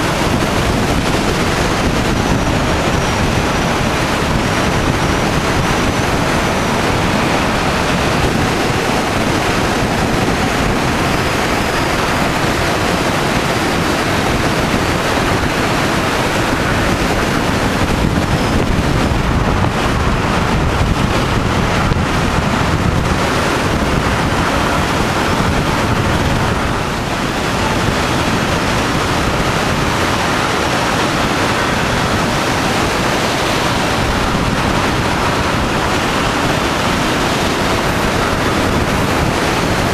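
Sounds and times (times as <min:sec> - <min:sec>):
car wind and tyre noise: 0:00.0 - 0:39.9.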